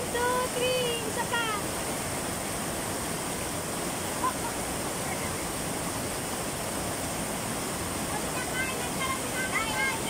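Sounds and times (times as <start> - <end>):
waterfall rushing over rocks: 0.0 - 10.0.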